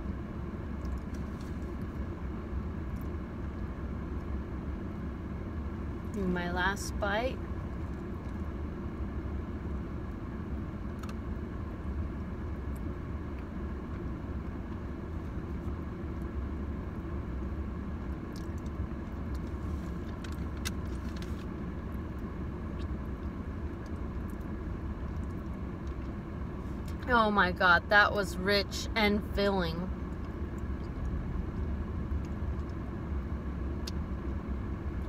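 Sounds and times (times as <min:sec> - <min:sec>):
car cabin rumble: 0:00.0 - 0:35.0.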